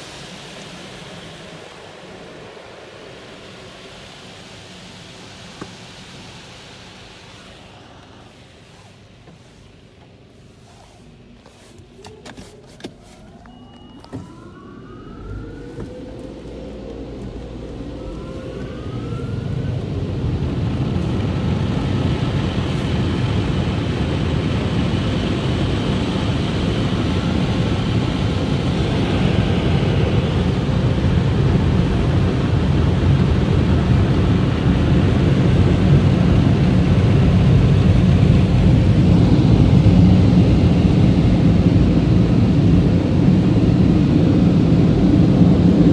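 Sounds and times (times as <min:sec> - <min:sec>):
blower motors whining: 0:00.0 - 0:10.2, 0:11.1 - 0:45.9.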